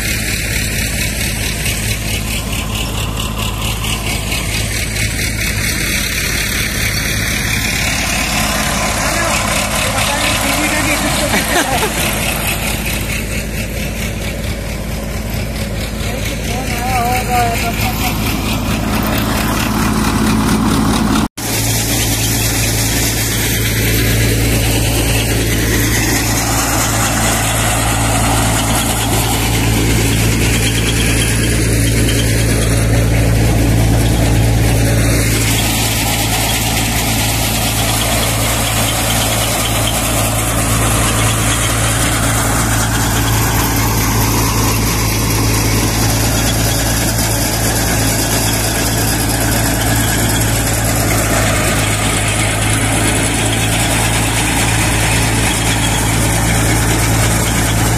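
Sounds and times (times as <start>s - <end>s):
tractor engine hum: 0.0s - 57.9s.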